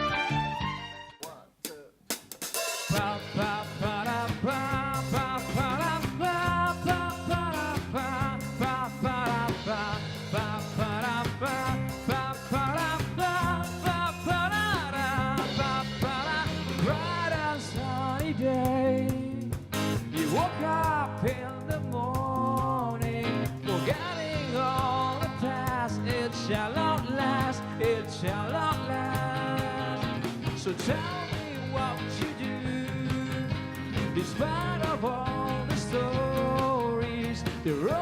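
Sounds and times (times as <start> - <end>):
rock band playing: 0.0 - 1.3, 2.3 - 38.0
drums: 0.0 - 38.0.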